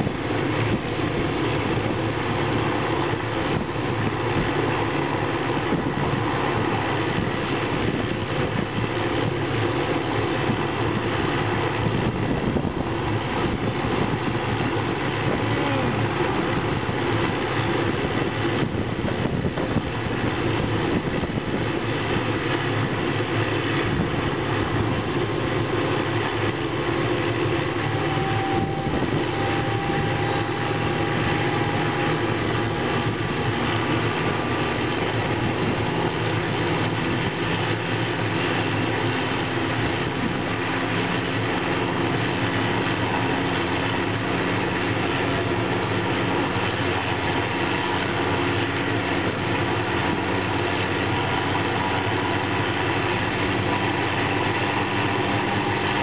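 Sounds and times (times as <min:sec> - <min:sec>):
helicopter turbine engine running: 0:00.0 - 0:56.0.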